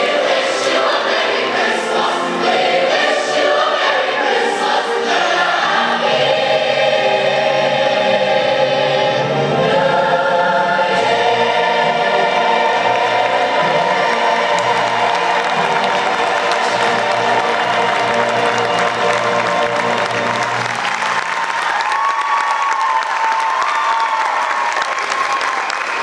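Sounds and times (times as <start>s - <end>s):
choir singing: 0.0s - 21.6s.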